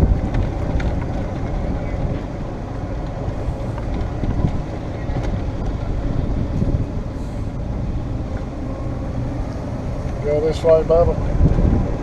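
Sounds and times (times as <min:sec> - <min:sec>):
golf cart rolling: 0:00.0 - 0:12.0
wind buffeting microphone: 0:00.0 - 0:12.0.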